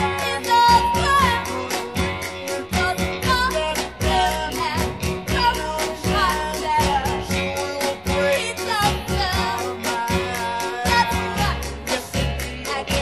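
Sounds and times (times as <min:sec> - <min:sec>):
person singing: 0:00.0 - 0:13.0
rhythm and blues record playing: 0:00.0 - 0:13.0.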